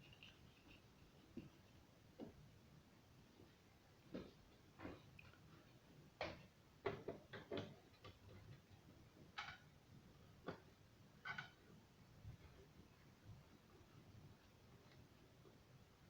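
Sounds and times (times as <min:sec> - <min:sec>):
faint clicks and taps: 0:00.0 - 0:02.6, 0:03.3 - 0:09.8, 0:10.4 - 0:16.0.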